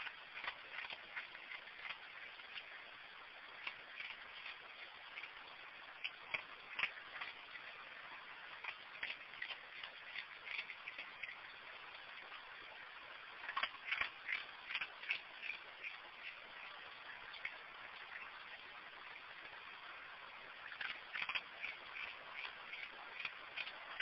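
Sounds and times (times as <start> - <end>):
crunching of dry kibble: 0.0 - 18.6, 20.4 - 24.0
steady low hiss: 0.0 - 24.0.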